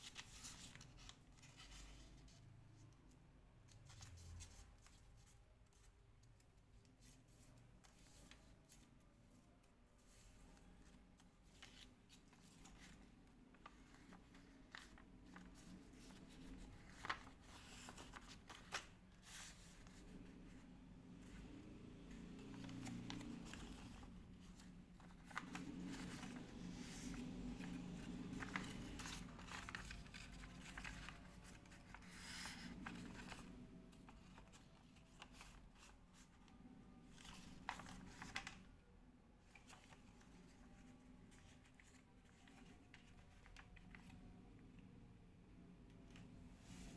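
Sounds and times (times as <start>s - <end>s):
paper being folded: 0.0s - 2.4s, 3.7s - 38.7s, 39.4s - 44.3s.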